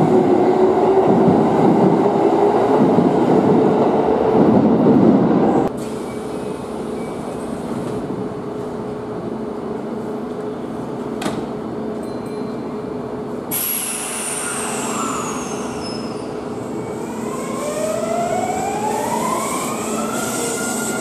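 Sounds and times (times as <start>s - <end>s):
electric train hum: 0.0s - 21.0s.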